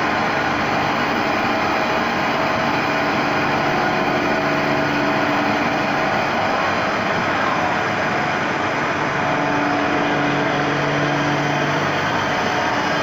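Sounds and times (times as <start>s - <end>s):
refrigeration machinery running: 0.0s - 13.0s.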